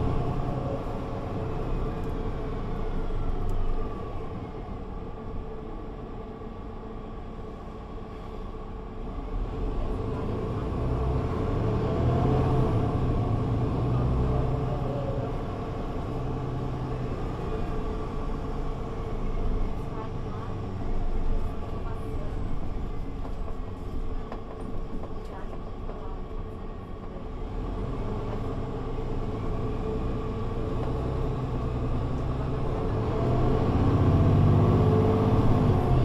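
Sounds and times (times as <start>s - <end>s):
bus engine running: 0.0s - 36.0s
road rumble: 0.0s - 36.0s.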